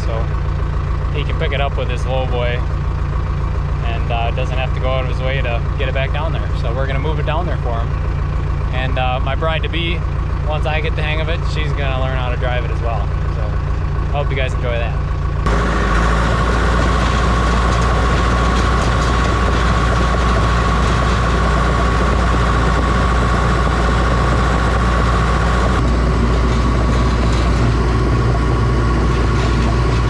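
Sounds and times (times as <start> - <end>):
high whine: 0.0 - 0.4, 1.0 - 2.7, 3.6 - 30.0
dozer diesel engine running: 0.0 - 30.0.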